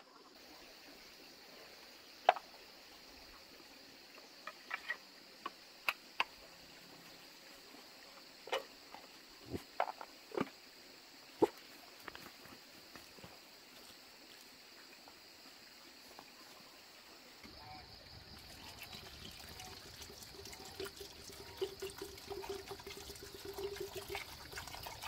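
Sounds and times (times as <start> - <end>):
faint high insect drone: 0.0 - 25.0.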